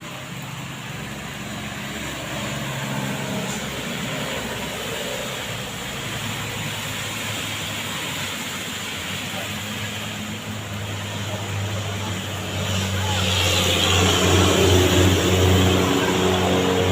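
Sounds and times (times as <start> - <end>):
passing vehicle engine drone: 0.0 - 16.9
rain: 0.0 - 16.9
tyres hissing on wet road: 0.0 - 16.9.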